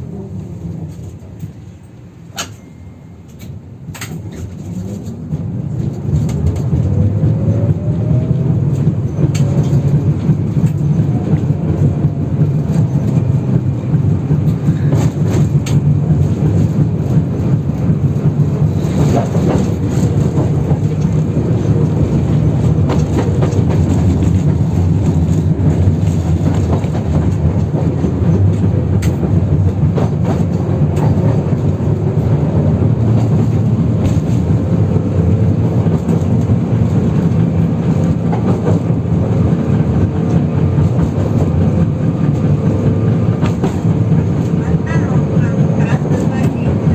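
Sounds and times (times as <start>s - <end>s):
tram rumbling on track: 0.0s - 46.9s.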